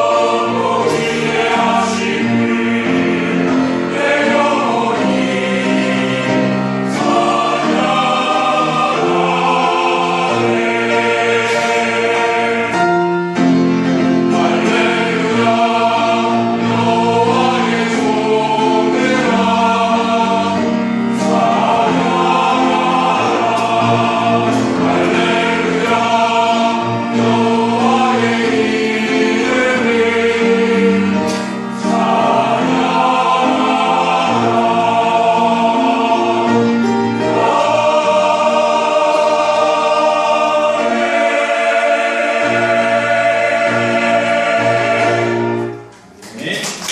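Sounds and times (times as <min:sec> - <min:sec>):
church choir singing a hymn: 0:00.0 - 0:46.9
musical accompaniment: 0:00.0 - 0:46.9.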